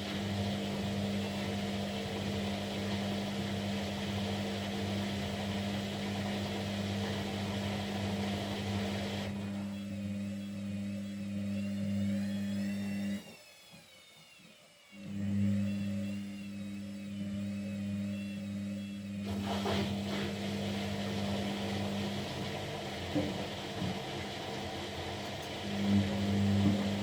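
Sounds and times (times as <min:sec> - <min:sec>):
washing machine motor hum: 0:00.0 - 0:13.6, 0:14.9 - 0:27.0.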